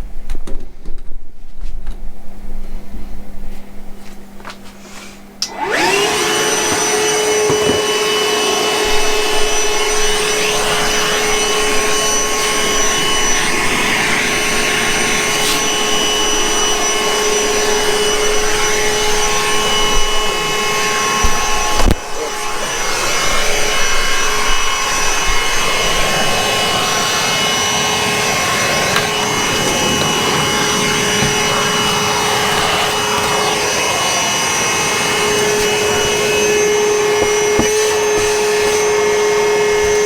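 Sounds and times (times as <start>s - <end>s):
shop vac motor whining: 4.5s - 40.0s.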